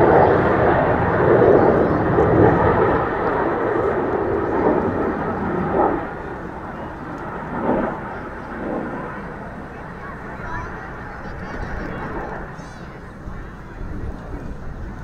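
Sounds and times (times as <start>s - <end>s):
jet passing overhead: 0.0s - 15.0s.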